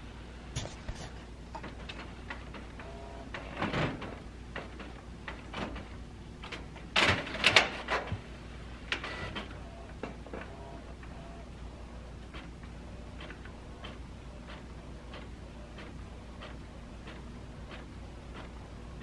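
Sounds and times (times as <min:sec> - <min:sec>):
printer whirs and clicks: 0:01.6 - 0:08.2, 0:08.8 - 0:19.0.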